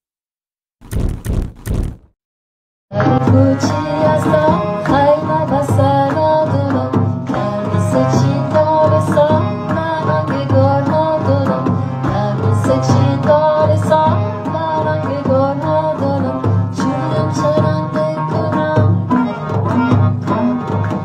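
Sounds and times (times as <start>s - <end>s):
woman singing folk song: 2.9s - 21.0s.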